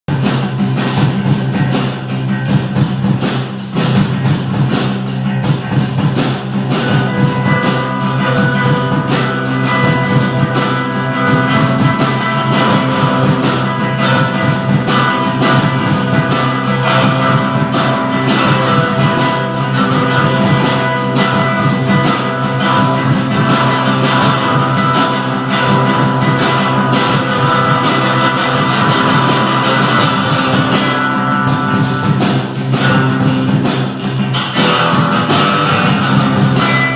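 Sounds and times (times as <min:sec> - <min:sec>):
rock music with guitar and drums: 0:00.1 - 0:36.9.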